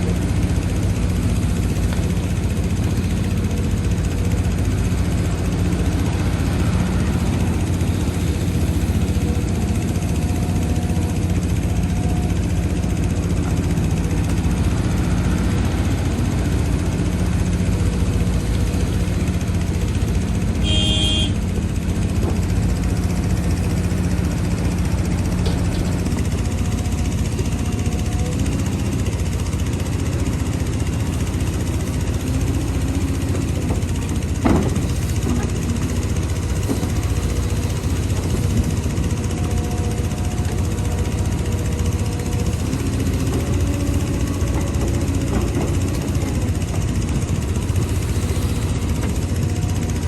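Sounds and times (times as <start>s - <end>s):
heavy diesel machinery running: 0.0s - 50.0s.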